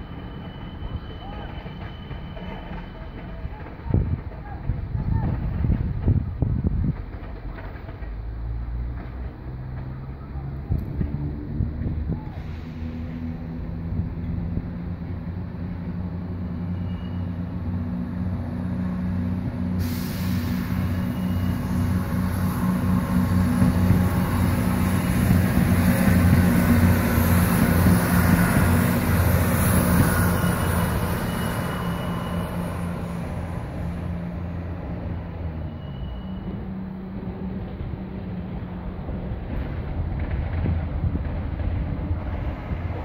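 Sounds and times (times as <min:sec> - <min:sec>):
train engine hum: 0:00.0 - 0:43.0
wheels hissing on rails: 0:00.0 - 0:43.0.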